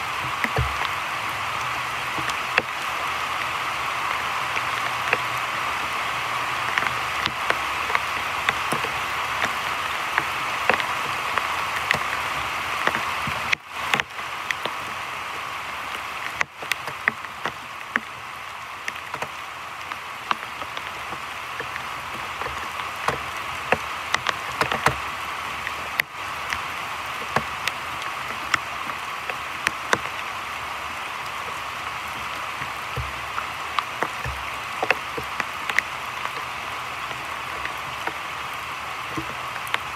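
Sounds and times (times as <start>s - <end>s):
heavy rain hissing: 0.0s - 39.9s
sharp ticks of raindrops: 0.0s - 39.9s.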